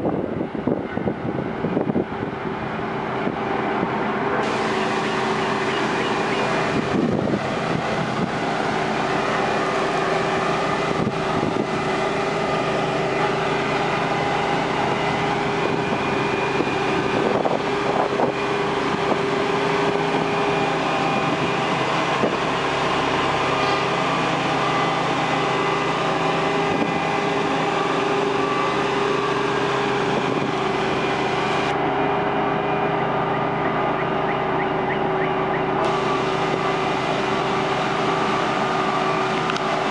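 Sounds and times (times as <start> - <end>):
compactor engine running: 0.0 - 39.9.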